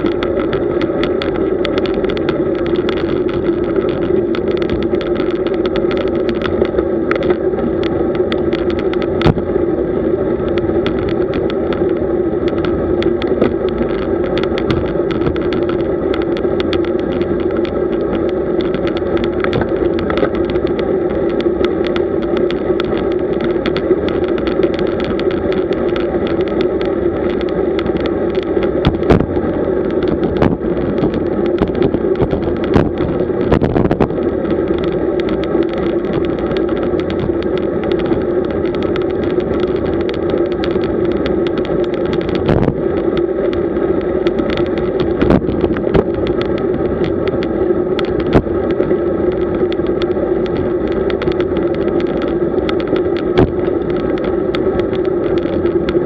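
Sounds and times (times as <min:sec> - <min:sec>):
small clicks and knocks: 0:00.0 - 0:09.5, 0:10.4 - 0:56.0
bicycle tyres and wind hum: 0:00.0 - 0:56.0.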